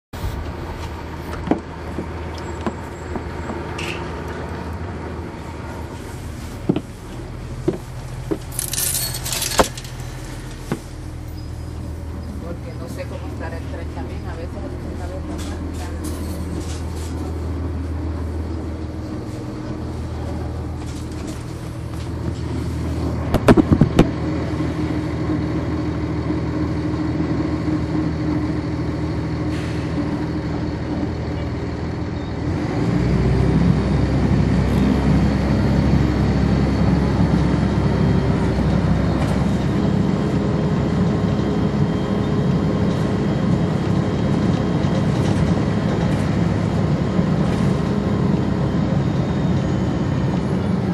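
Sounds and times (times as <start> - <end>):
bus diesel engine running: 0.1 - 50.9.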